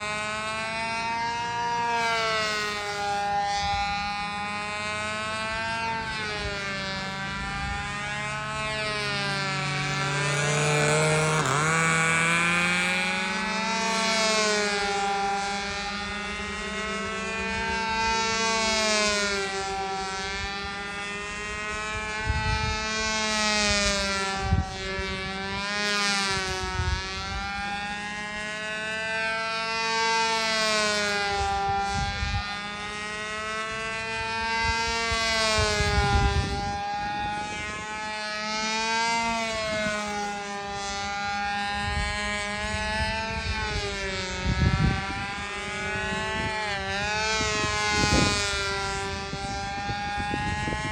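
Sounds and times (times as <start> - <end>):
model airplane engine running: 0.0 - 50.9.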